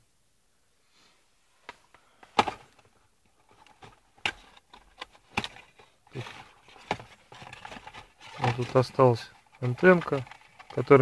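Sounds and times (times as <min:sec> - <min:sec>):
plastic parts clicking and knocking: 0:01.6 - 0:11.0.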